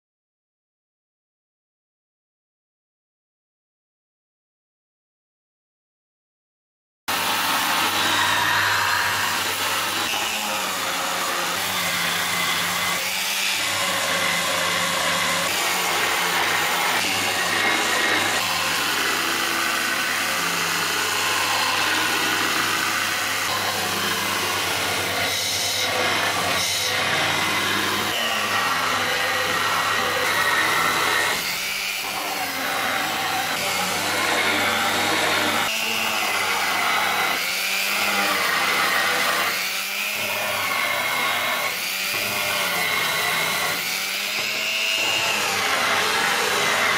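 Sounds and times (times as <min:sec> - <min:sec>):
electric polisher grinding metal: 0:07.1 - 0:46.9.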